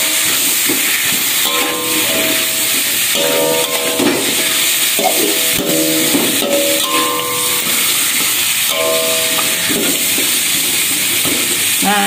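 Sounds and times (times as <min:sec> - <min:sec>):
chicken sizzling in a wok: 0:00.0 - 0:12.0
metal spatula scraping a pan: 0:00.1 - 0:11.7.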